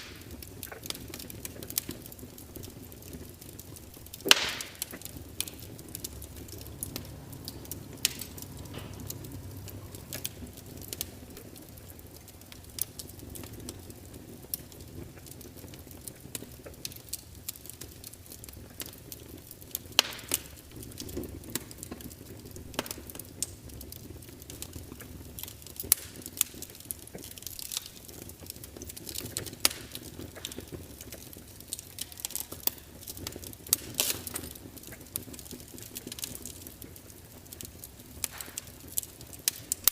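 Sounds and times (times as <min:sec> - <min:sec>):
logs crackling and popping: 0:00.0 - 0:39.9
low fire rumble: 0:00.0 - 0:39.9.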